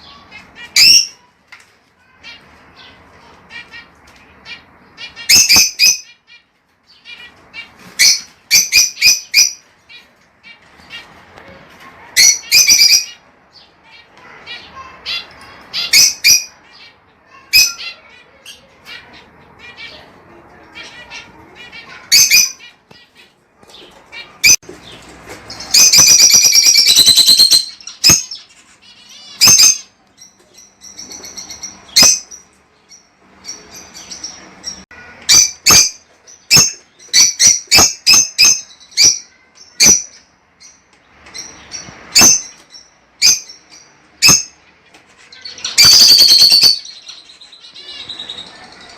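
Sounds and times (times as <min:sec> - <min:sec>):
lovebirds chattering: 0:00.0 - 0:01.3, 0:02.0 - 0:48.9
lovebirds chirping: 0:00.0 - 0:48.9.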